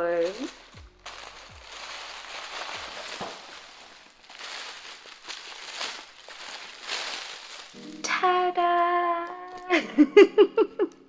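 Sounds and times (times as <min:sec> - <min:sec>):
tissue paper rustling and crinkling: 0:00.0 - 0:09.7.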